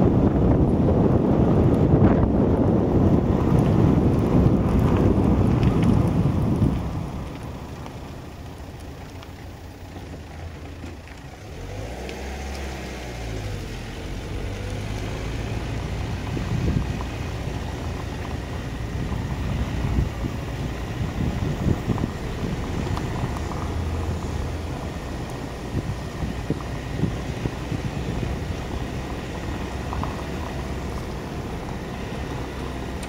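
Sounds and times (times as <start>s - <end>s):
car engine and road rumble: 0.0s - 33.0s
wind buffeting microphone: 0.0s - 33.0s.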